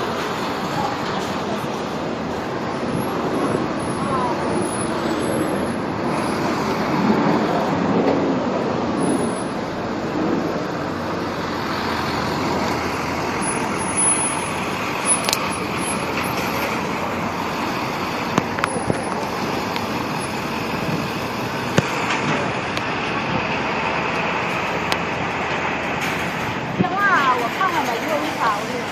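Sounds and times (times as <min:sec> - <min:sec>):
city street traffic: 0:00.0 - 0:28.9.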